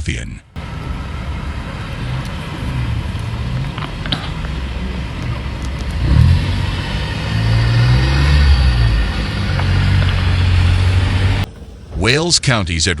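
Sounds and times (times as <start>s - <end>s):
road noise: 0.0s - 13.0s
vehicle engine running: 0.6s - 13.0s.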